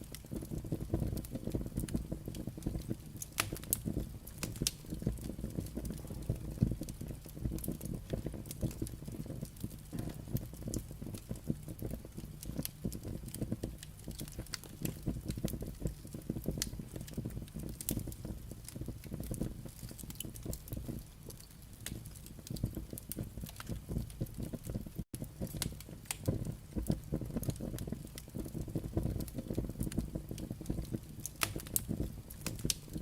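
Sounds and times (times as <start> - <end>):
firewood crackling: 0.0 - 33.0
low rumble of flame: 0.0 - 33.0.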